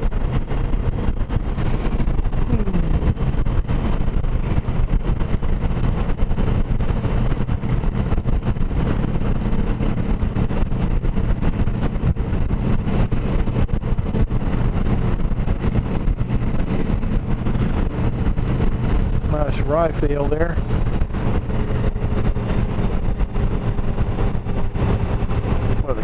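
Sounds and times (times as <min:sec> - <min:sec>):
motorcycle engine hum: 0:00.0 - 0:26.0
wind noise on microphone: 0:00.0 - 0:26.0.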